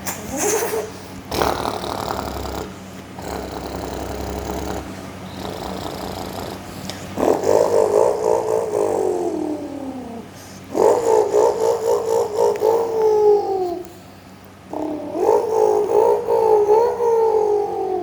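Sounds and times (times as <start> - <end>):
person imitating truck engine: 0.0 - 14.0, 14.7 - 18.0.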